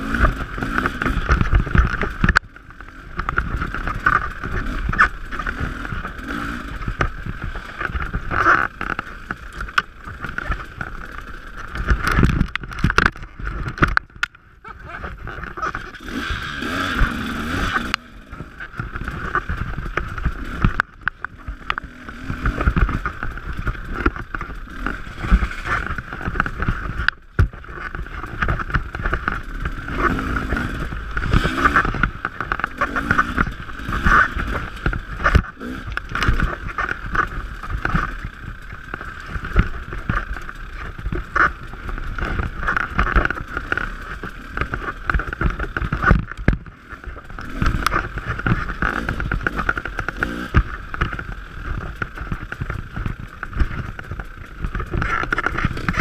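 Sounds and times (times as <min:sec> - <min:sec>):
dirt bike engine revving: 0:00.0 - 0:13.8, 0:14.8 - 0:56.0
knocks from bike on trail: 0:00.0 - 0:14.4, 0:15.2 - 0:56.0.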